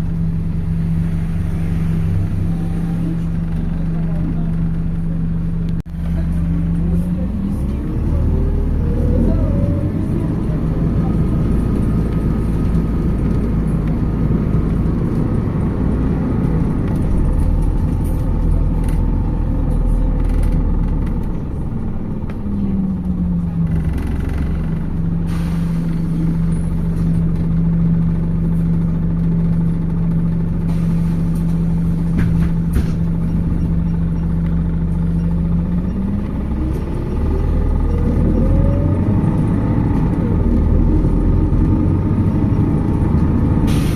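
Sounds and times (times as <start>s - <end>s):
bus engine and road noise: 0.0s - 43.9s.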